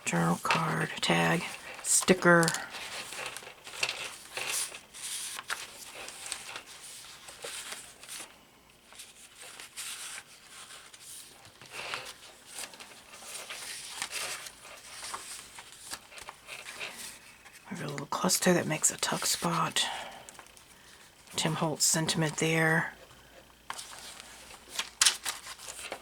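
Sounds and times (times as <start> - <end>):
paper rustling and crinkling: 0.3 - 19.7, 23.5 - 26.0.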